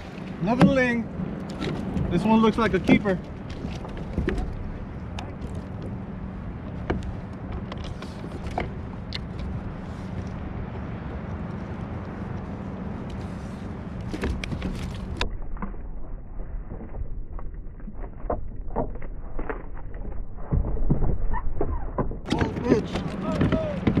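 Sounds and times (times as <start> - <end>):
water noise: 0.0 - 24.0
wind: 0.0 - 24.0.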